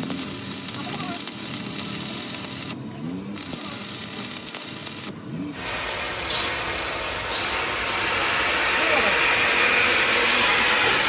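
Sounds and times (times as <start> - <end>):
hissing workshop noise: 0.0 - 11.0.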